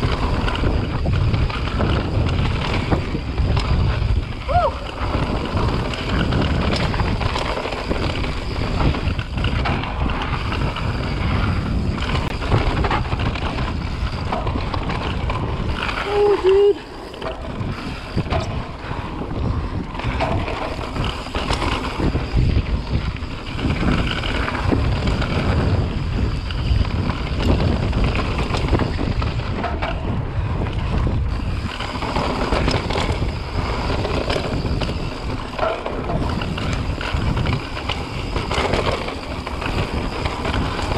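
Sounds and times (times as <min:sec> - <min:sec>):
bike rattling: 0:00.0 - 0:40.9
tyres rumbling on dirt: 0:00.0 - 0:40.9
wind buffeting microphone: 0:00.0 - 0:40.9.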